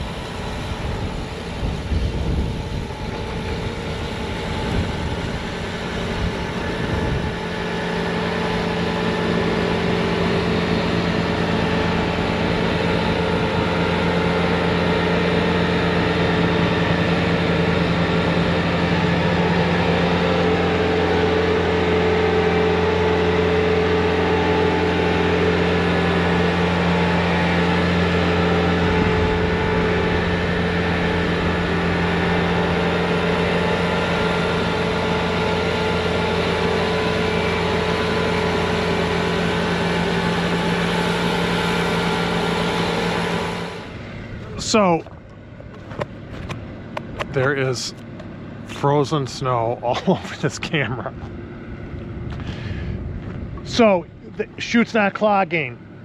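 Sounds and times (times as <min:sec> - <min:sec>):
diesel engine with snowblower: 0:00.0 - 0:56.0.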